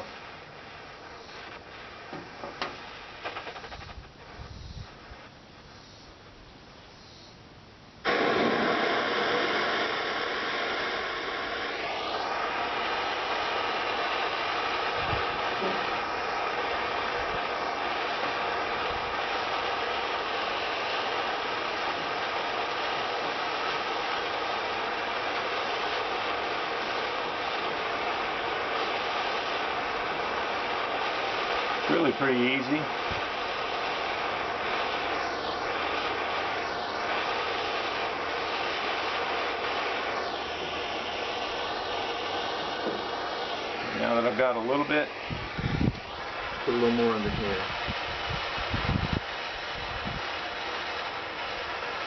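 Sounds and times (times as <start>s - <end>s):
propane torch hissing: 0.0s - 7.4s, 8.0s - 52.0s.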